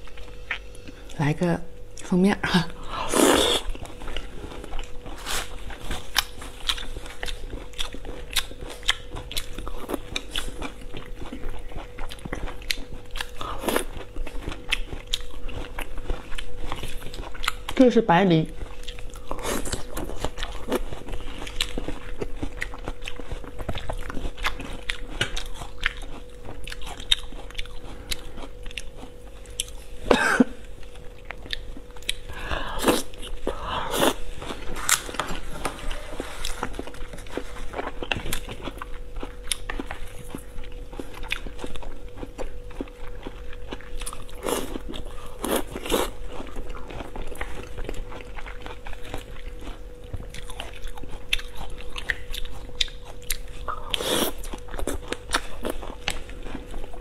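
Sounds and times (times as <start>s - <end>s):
faint steady hum: 0.0s - 57.0s
wet chewing of meat: 3.2s - 17.8s, 18.4s - 30.0s, 30.7s - 57.0s.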